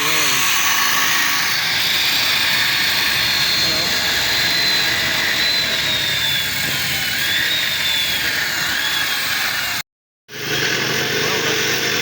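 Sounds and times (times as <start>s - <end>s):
engine-like hum: 0.0s - 12.0s
power tool whining on steel: 0.0s - 12.0s.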